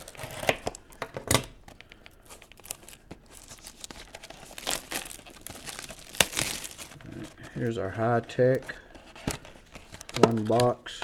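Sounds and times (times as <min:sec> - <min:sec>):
packaging crinkling and ripping: 0:00.0 - 0:10.8.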